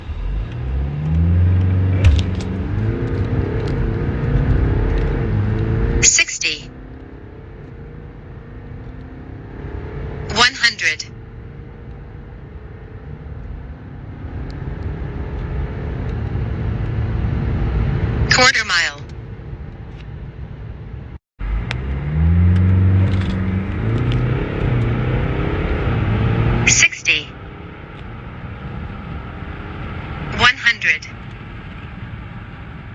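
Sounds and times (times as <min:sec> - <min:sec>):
diesel car engine accelerating: 0:00.0 - 0:32.9.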